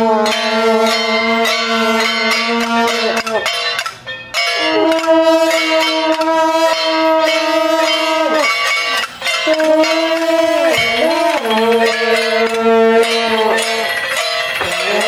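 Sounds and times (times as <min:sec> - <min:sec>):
brass horns long notes: 0:00.0 - 0:03.5, 0:04.6 - 0:15.0
faint metallic percussion: 0:00.0 - 0:15.0.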